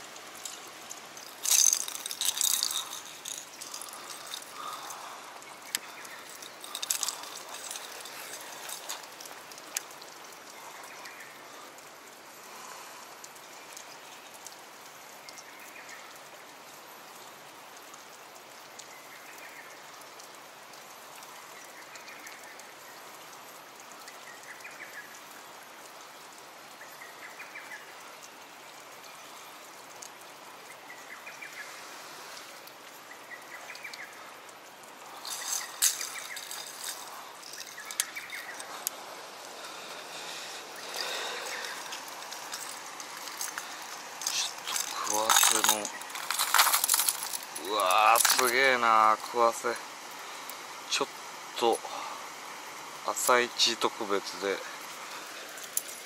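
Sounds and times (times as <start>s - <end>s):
water trickling and dripping: 0.0s - 56.0s.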